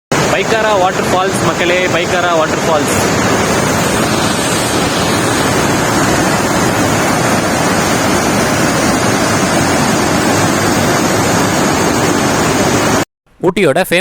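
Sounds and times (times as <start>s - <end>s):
waterfall roaring: 0.1s - 13.0s.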